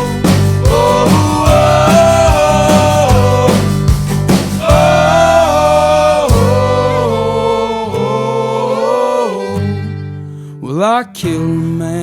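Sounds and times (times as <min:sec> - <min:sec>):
instrumental country-rock song: 0:00.0 - 0:12.0.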